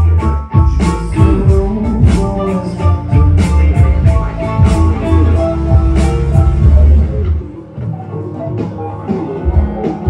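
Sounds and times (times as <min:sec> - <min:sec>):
drum kit beat: 0:00.0 - 0:10.0
heavy bass line: 0:00.0 - 0:10.0
held keyboard and guitar tones: 0:00.0 - 0:10.0.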